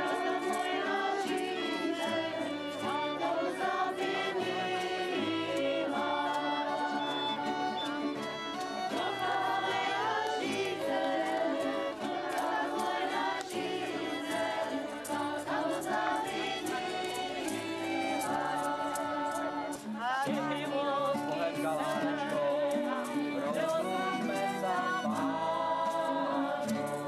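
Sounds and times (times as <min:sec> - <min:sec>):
choir singing sustained notes: 0:00.0 - 0:27.0
violins playing gliding notes: 0:00.0 - 0:27.0.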